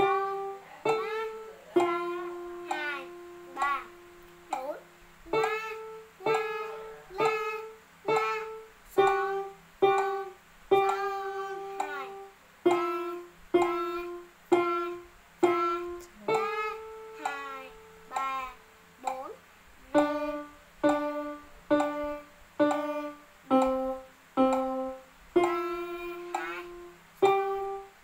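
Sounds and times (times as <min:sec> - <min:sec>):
electronic keyboard melody: 0:00.0 - 0:19.3, 0:19.9 - 0:28.0.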